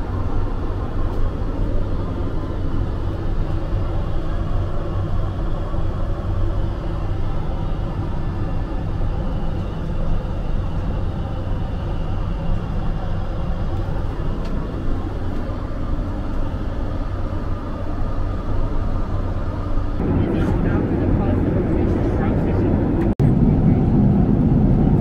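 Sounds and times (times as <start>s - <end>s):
aircraft cabin engine rumble: 0.0s - 25.0s.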